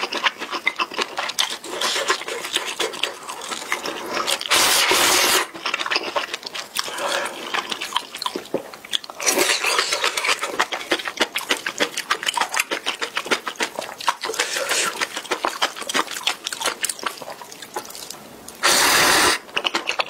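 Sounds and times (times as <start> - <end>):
chewing noodles: 0.0 - 20.0.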